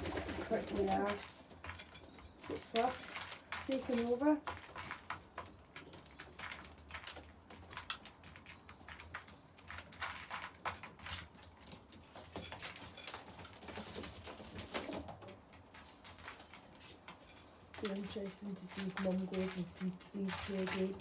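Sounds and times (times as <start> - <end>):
pigeons pecking at grain: 0.0 - 21.0.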